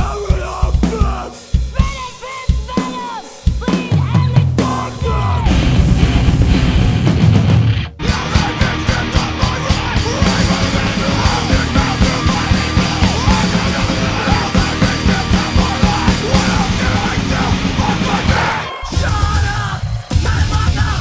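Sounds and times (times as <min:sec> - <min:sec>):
fast pounding drums: 0:00.0 - 0:21.0
yelled vocals: 0:00.0 - 0:21.0
distorted guitars: 0:03.6 - 0:21.0.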